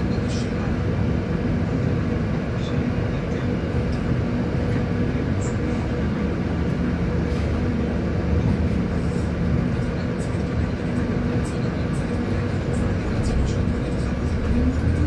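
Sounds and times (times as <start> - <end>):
bus engine hum: 0.0 - 15.0.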